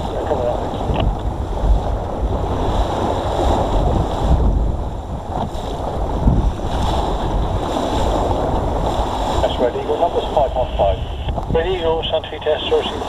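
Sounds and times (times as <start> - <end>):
choppy water sloshing on hull: 0.0 - 13.0
wind buffeting microphone: 0.0 - 13.0.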